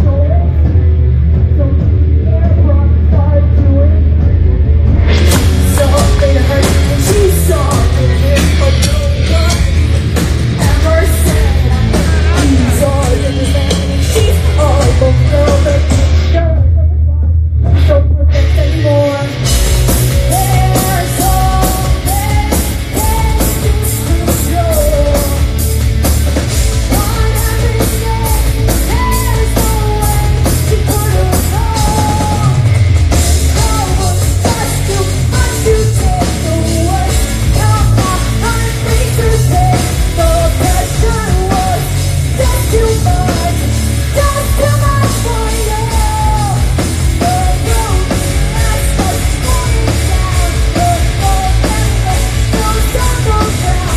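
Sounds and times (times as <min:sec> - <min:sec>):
female lead vocal: 0:00.0 - 0:04.4, 0:05.3 - 0:25.9, 0:26.5 - 0:53.9
rock band playing: 0:00.0 - 0:16.8, 0:17.6 - 0:53.9.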